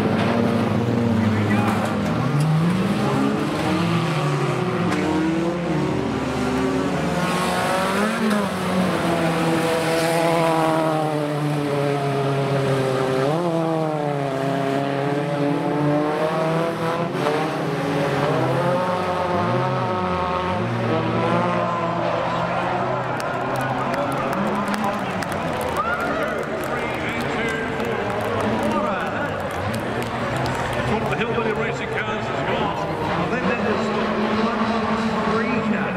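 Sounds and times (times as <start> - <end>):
race car engines running hard: 0.0 - 35.9.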